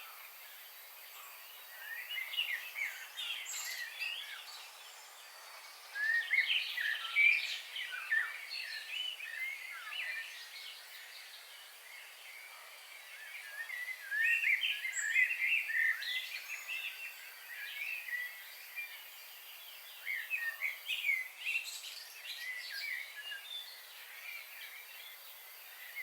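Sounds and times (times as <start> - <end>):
faint steady hiss: 0.0 - 26.0
songbirds chirping: 0.0 - 26.0.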